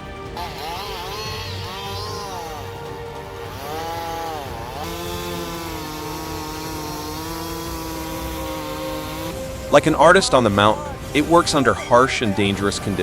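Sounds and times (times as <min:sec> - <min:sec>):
chainsaw cutting timber: 0:00.0 - 0:13.0.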